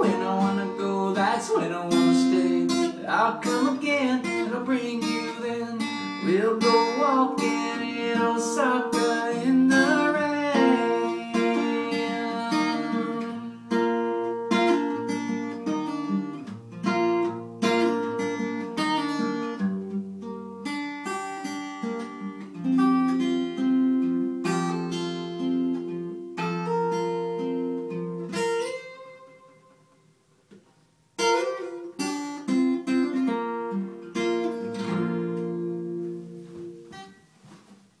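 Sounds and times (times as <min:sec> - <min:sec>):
acoustic guitar strumming: 0:00.0 - 0:37.9.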